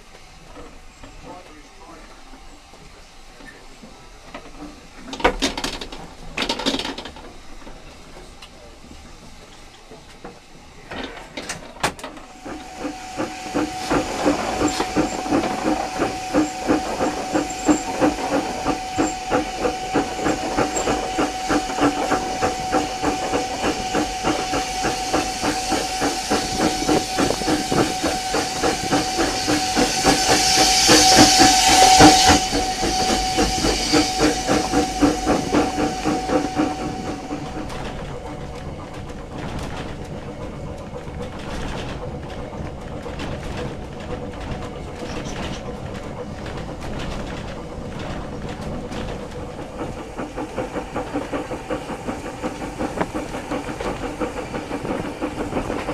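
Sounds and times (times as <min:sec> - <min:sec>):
steam exhaust beat with hiss: 0:00.0 - 0:55.9
steam train bursts: 0:00.0 - 0:55.9.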